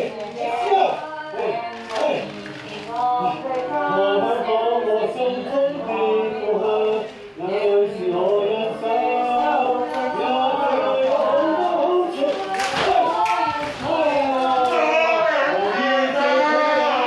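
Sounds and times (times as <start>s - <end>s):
voices singing sliding held notes: 0.0s - 17.0s.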